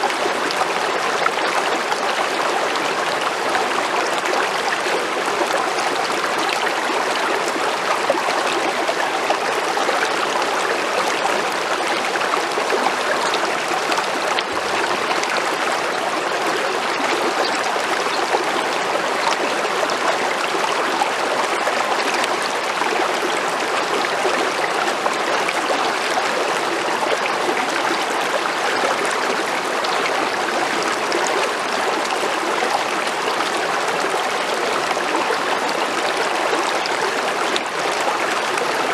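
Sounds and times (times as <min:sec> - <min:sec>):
creek flowing over rocks: 0:00.0 - 0:38.9.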